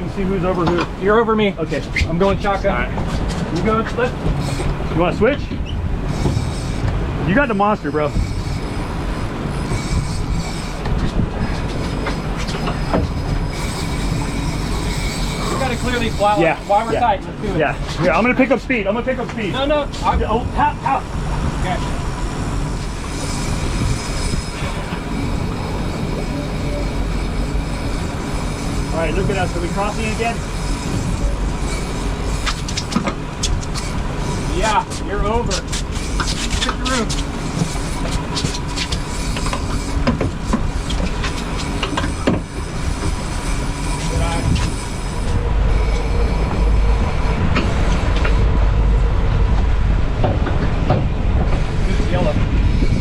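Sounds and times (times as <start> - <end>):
outboard engines running: 0.0 - 53.0
rush of wind and water: 0.0 - 53.0.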